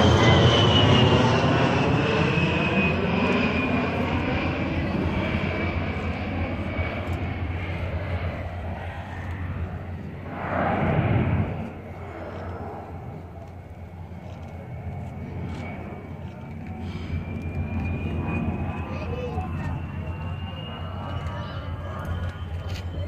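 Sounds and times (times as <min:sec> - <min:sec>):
aircraft engine roar and whine: 0:00.0 - 0:23.0.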